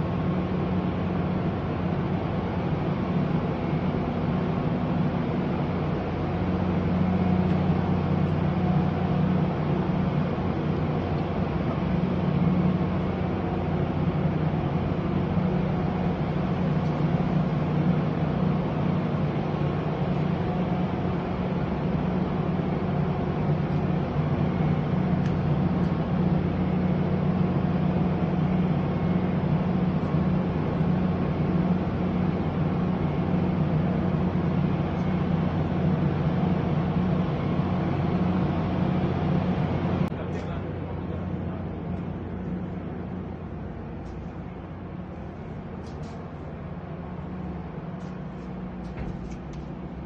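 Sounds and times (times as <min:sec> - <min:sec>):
industrial machine hum: 0:00.0 - 0:50.0.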